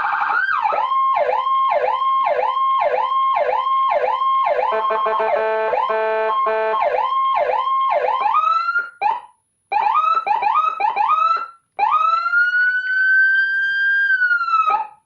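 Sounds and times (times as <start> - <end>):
electronic siren whoops and wail: 0.0 - 15.0.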